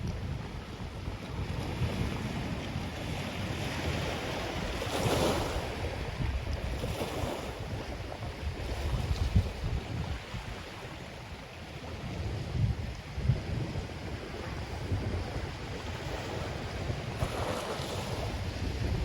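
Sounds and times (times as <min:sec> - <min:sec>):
ocean waves breaking on beach: 0:00.0 - 0:19.0
wind rumbling on microphone: 0:00.0 - 0:19.0.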